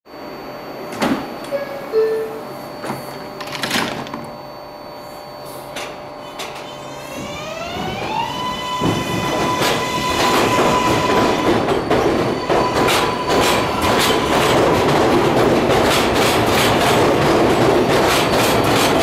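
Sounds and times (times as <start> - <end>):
train traction motor whine: 0.1 - 19.0.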